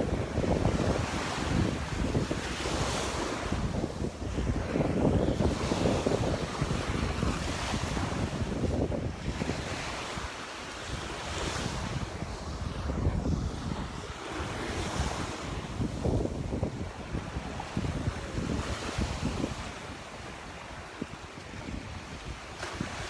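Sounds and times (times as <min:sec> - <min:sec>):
waves breaking on sandy beach: 0:00.0 - 0:23.0
wind buffeting microphone: 0:00.0 - 0:23.0.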